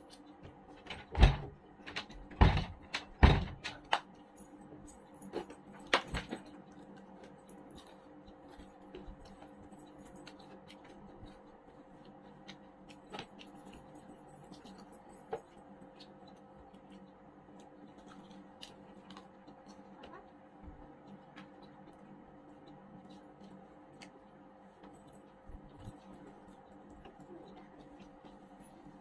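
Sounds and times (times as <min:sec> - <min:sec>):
faint chewing clicks: 0:00.0 - 0:00.9, 0:03.9 - 0:29.0.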